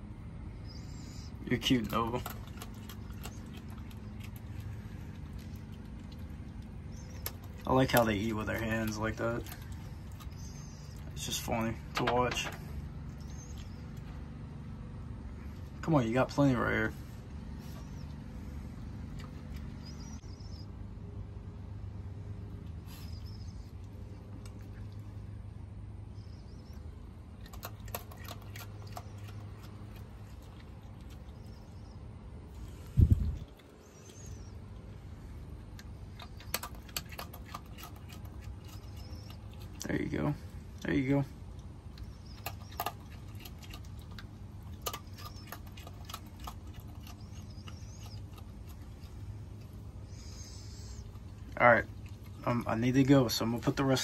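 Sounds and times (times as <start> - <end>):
steady low hum: 0.0 - 54.0
animal crunching dry kibble: 0.7 - 20.6, 26.6 - 54.0.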